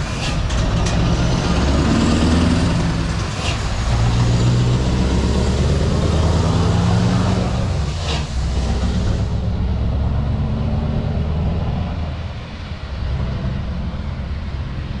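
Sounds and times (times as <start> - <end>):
truck engine pulling away: 0.0 - 15.0.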